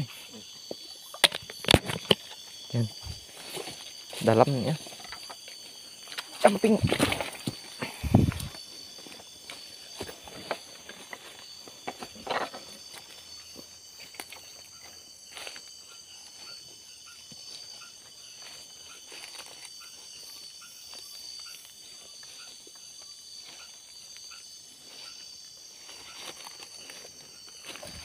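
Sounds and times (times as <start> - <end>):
insects trilling: 0.0 - 28.0
footsteps in undergrowth: 1.5 - 28.0.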